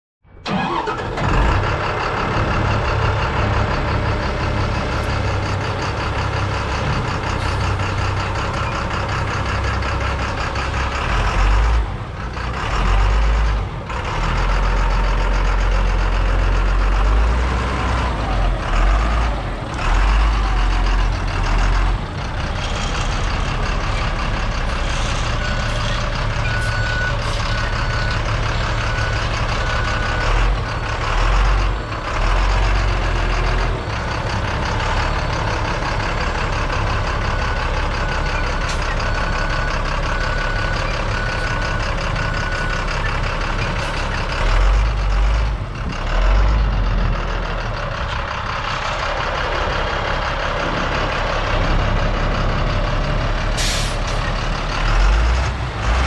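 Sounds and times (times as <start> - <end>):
truck engine rumbling: 0.2 - 56.0.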